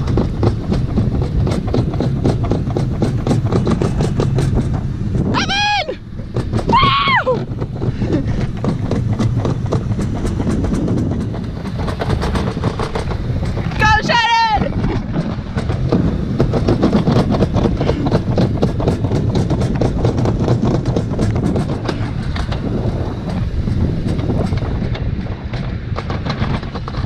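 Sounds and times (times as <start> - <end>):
rattling clicks over track: 0.0 - 5.4, 6.2 - 27.0
sled wheels rumbling: 0.0 - 27.0.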